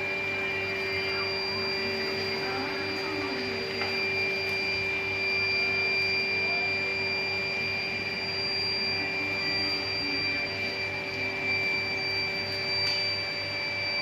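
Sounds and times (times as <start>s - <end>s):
furnace high-pitched whine: 0.0s - 14.0s.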